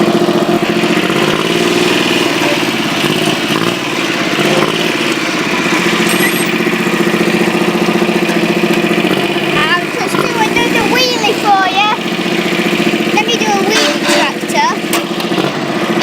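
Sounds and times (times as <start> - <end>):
small tractor engine running: 0.0 - 16.0.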